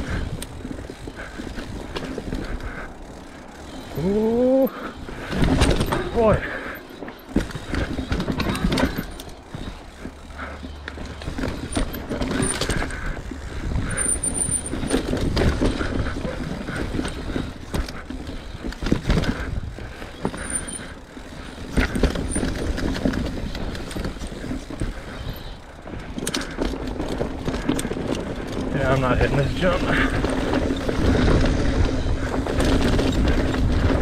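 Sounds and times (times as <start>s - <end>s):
bike rattling and clattering: 0.0s - 34.0s
bike tyres scrubbing over dirt: 0.0s - 34.0s.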